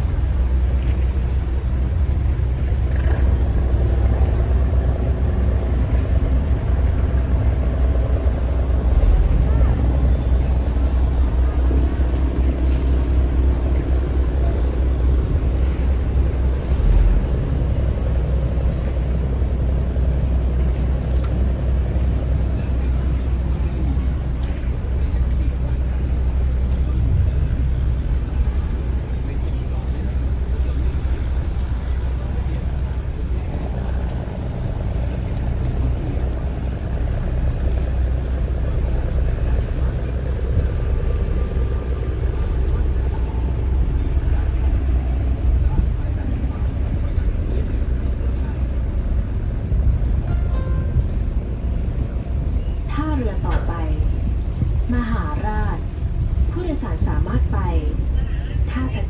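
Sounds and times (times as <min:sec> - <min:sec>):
boat engine rumbling: 0:00.0 - 0:59.0
water washing around hull: 0:00.0 - 0:59.0.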